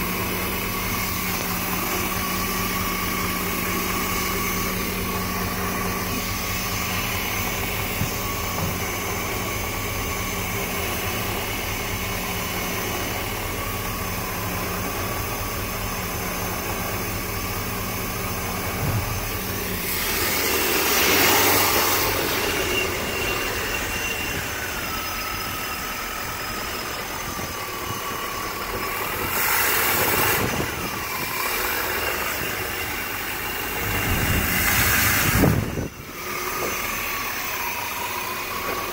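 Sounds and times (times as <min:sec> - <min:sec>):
engine idling: 0:00.0 - 0:38.9
noisy engine surges: 0:00.0 - 0:38.9.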